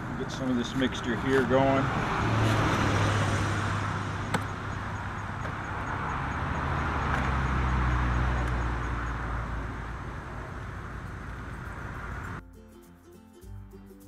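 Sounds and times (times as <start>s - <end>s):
vehicle engine humming: 0.0s - 12.4s.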